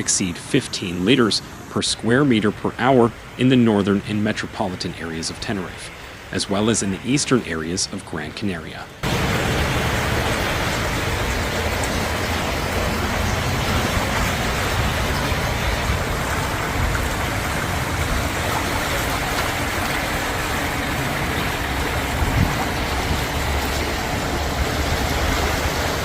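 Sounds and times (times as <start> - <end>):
heavy rain downpour: 0.0 - 26.0.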